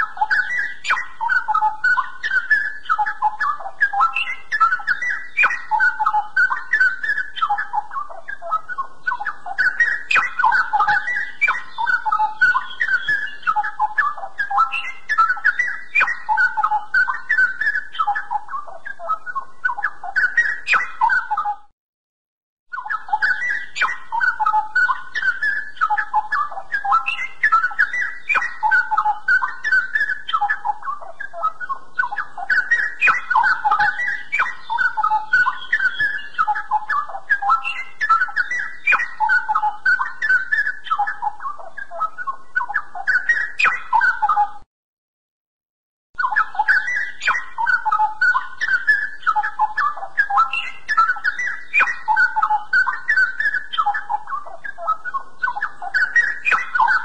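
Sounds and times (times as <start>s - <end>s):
bulbul singing warbled notes: 0.0s - 21.7s, 22.7s - 44.7s, 46.2s - 57.0s.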